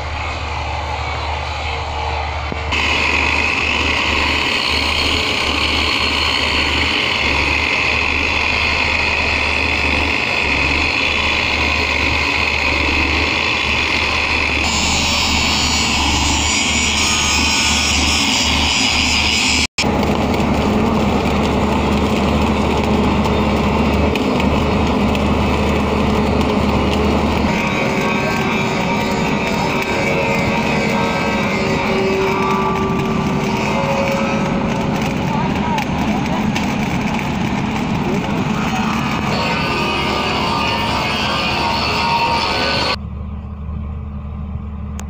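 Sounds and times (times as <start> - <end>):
rail welder crackling: 0.0 - 43.0
high machine whine: 0.0 - 45.0
track machinery engine drone: 0.0 - 45.0.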